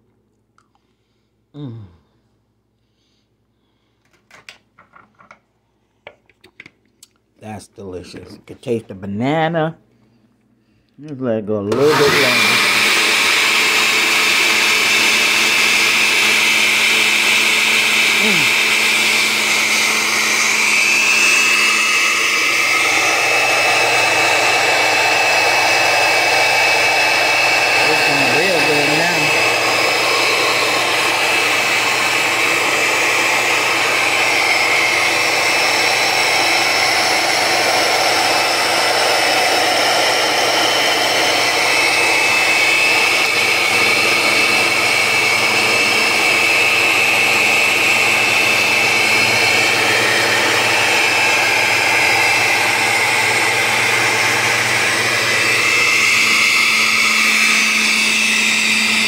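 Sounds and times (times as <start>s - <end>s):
blender motor whirring: 11.7s - 59.0s.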